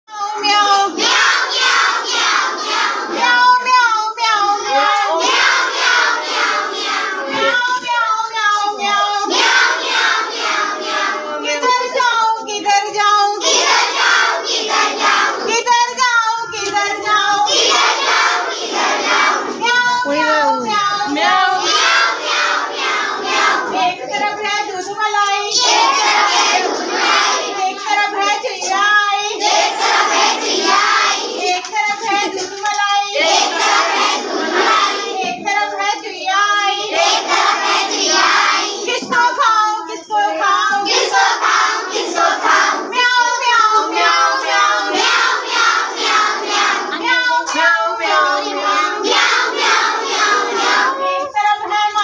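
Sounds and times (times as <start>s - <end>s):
children singing: 0.1s - 52.0s.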